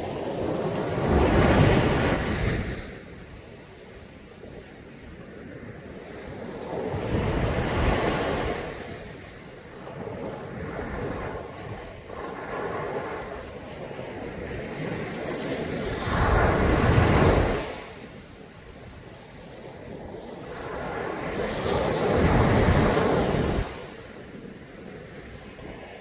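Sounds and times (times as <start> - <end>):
sea waves breaking on beach: 0.0 - 26.0.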